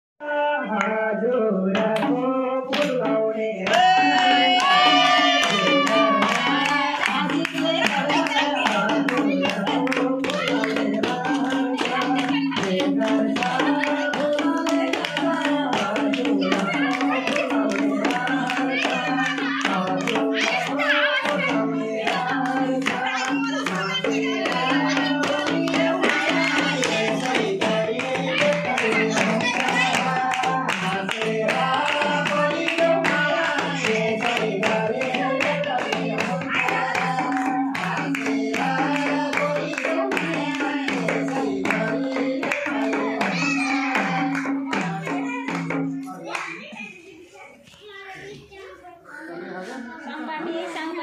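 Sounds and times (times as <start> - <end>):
person singing over loudspeaker: 0.2 - 46.2
rhythmic hand-clapping: 0.7 - 1.0, 1.7 - 46.9
sharp percussive beats: 0.7 - 46.5
hand drum: 1.7 - 46.1.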